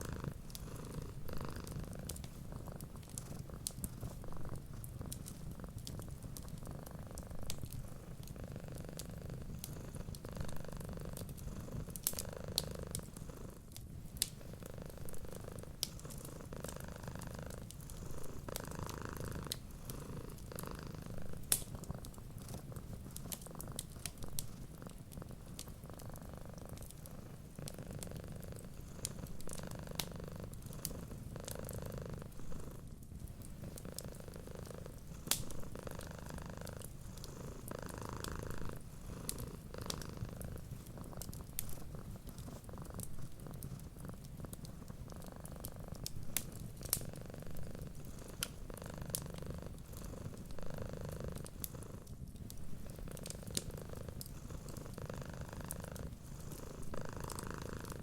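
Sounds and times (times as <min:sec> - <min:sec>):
cat purring: 0:00.0 - 0:58.0
wood fire crackling and popping: 0:00.0 - 0:58.0.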